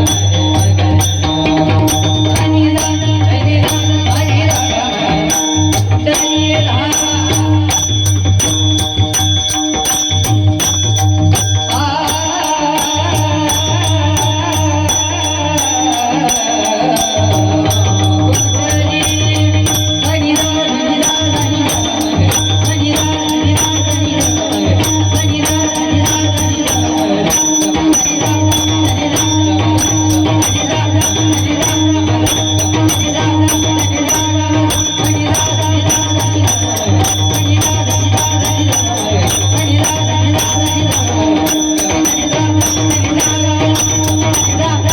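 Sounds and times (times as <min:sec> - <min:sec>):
person singing: 0:00.0 - 0:07.9, 0:11.6 - 0:44.9
held drone tones: 0:00.0 - 0:44.9
jingling metal percussion: 0:00.0 - 0:44.9.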